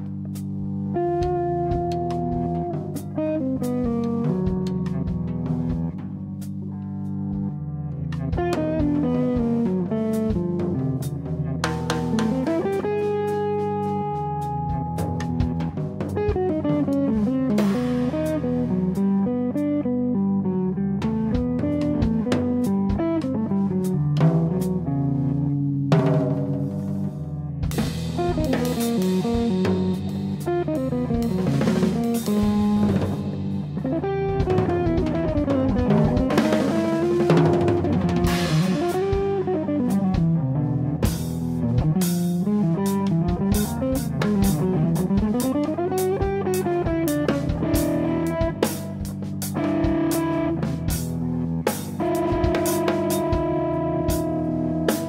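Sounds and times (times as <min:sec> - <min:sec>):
drum kit with cymbals: 0:00.0 - 0:55.0
electric guitar melody: 0:00.0 - 0:55.0.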